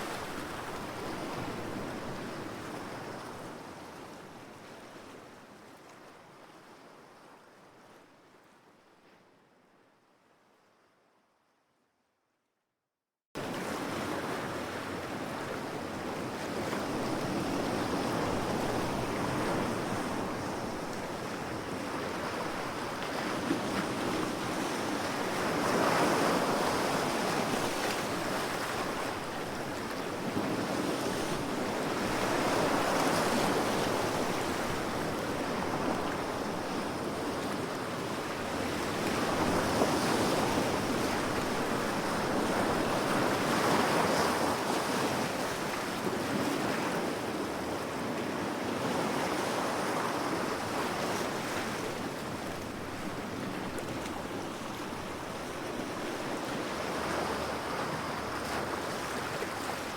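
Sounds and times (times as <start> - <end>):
ocean waves on shore: 0.0 - 3.6, 13.4 - 59.9.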